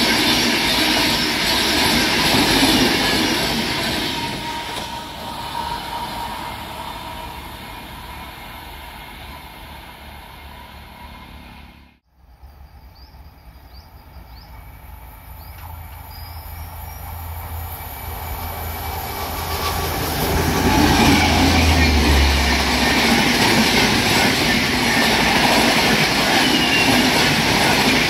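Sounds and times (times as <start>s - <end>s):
low hum of approaching train: 0.0s - 28.0s
train running past on rails: 0.0s - 28.0s.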